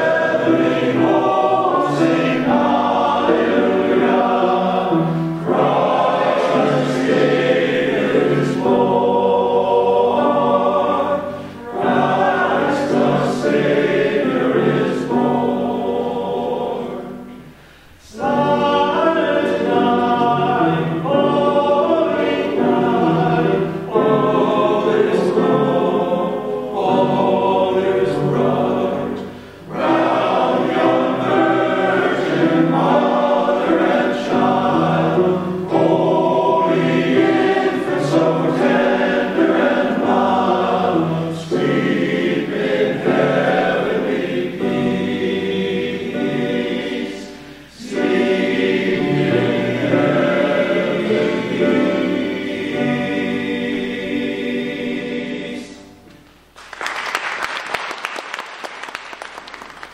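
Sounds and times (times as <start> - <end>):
male choir singing in harmony: 0.0 - 56.2.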